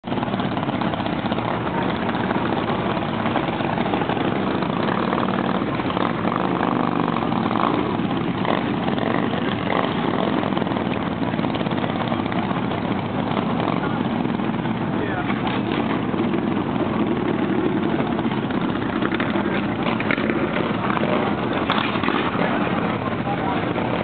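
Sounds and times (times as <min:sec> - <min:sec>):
motorcycle engines running: 0:00.0 - 0:24.0.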